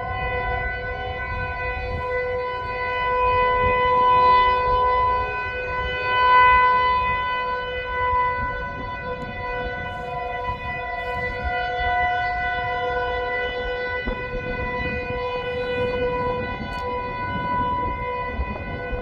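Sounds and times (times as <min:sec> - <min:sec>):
tornado warning siren: 0:00.0 - 0:19.0.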